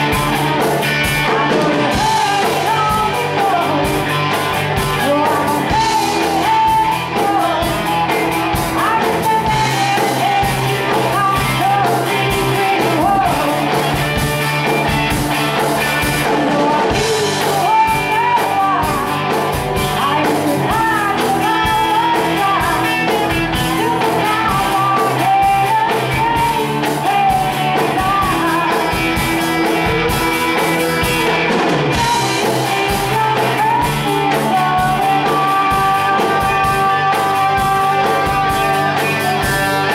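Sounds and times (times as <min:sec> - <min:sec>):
rock band playing: 0:00.0 - 0:39.9
woman singing: 0:00.8 - 0:14.2, 0:16.2 - 0:39.9.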